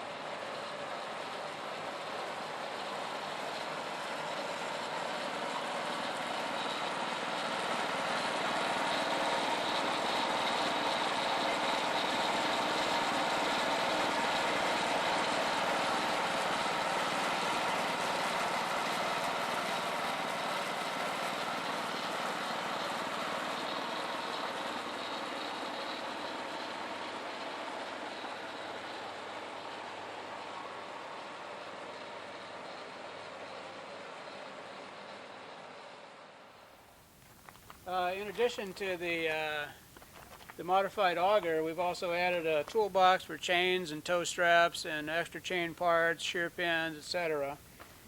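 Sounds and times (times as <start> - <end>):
tractor running snowblower: 0.0 - 48.0.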